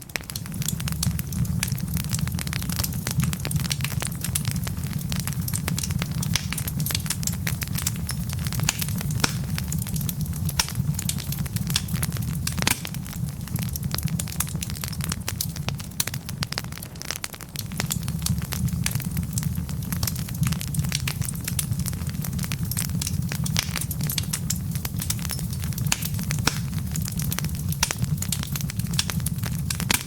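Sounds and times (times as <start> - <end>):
logs crackling in fireplace: 0.0 - 30.0.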